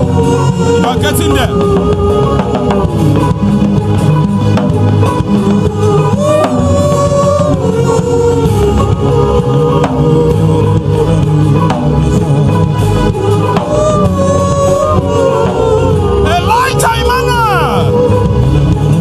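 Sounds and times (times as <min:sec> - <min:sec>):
drum kit and bass groove: 0:00.0 - 0:19.0.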